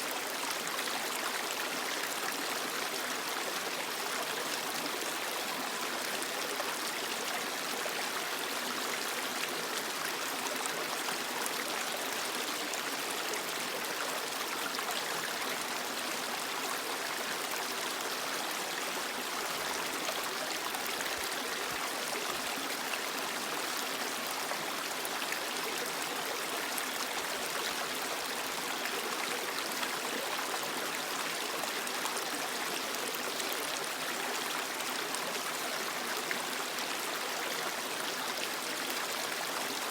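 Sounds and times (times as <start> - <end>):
creek water running over rocks: 0.0 - 39.9.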